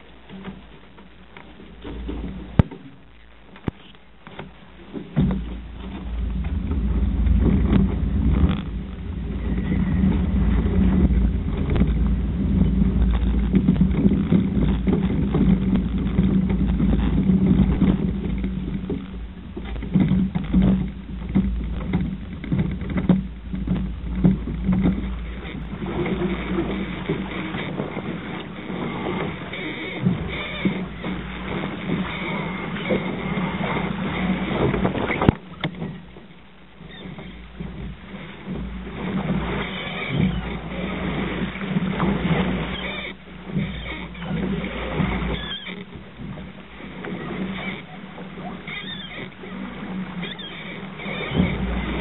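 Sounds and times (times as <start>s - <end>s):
wind and water against boat: 0.0s - 52.0s.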